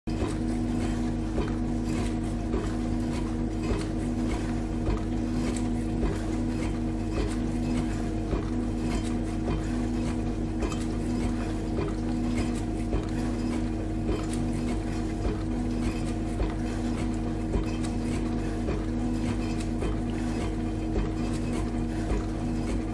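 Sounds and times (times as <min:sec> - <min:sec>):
dishwasher motor hum: 0:00.1 - 0:22.9.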